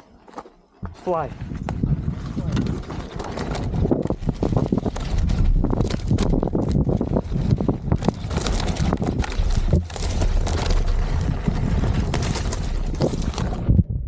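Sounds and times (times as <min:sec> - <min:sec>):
tyre rolling over stony trail: 0:00.0 - 0:13.8
wind rumble on microphone: 0:00.8 - 0:14.0.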